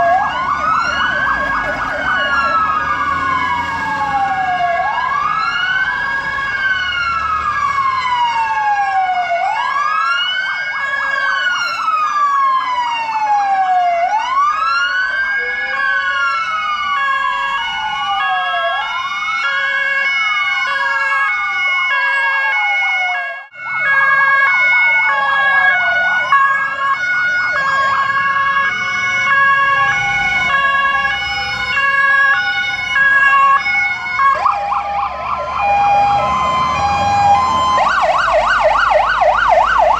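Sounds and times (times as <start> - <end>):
wailing siren: 0.0 - 39.9.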